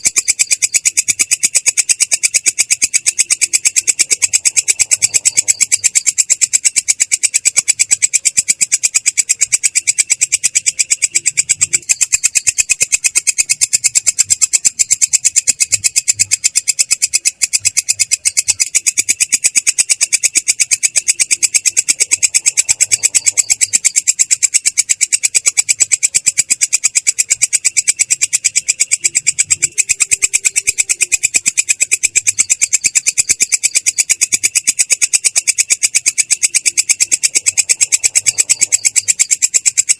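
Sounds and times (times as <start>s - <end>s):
katydid singing: 0.0s - 39.9s.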